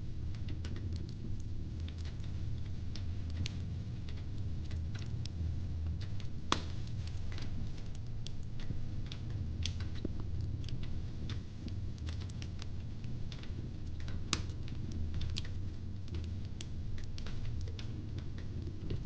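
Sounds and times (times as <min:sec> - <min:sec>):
fire pit crackling: 0:00.2 - 0:19.0.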